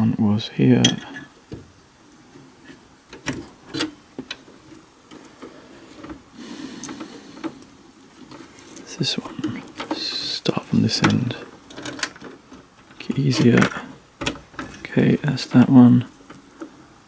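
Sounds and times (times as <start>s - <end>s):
cables rubbing: 2.2s - 17.0s.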